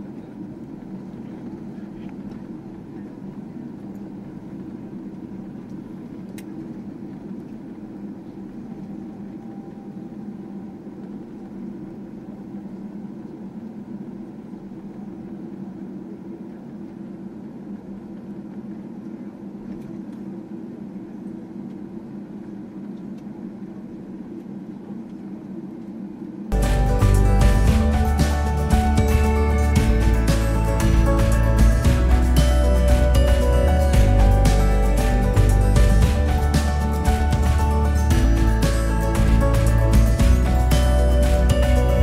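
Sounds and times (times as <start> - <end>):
jet engines at low power: 0.0 - 42.0.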